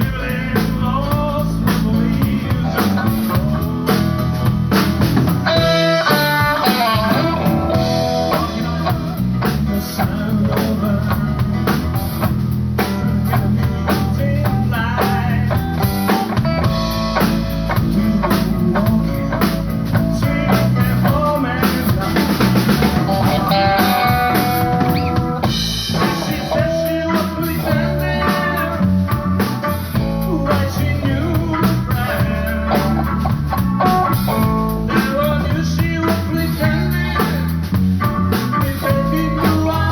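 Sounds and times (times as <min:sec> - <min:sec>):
drum rimshots: 0:00.0 - 0:39.9
live blues-rock band playing: 0:00.0 - 0:39.9.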